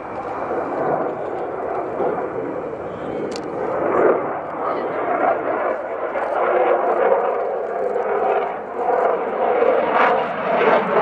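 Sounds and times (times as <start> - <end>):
fighter jet engine roar: 0.0 - 11.0.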